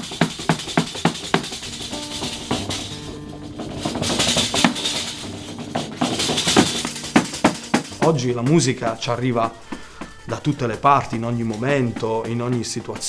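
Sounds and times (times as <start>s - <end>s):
pitched instrument notes: 0.0s - 12.0s
frame drum with jingles: 0.0s - 13.0s.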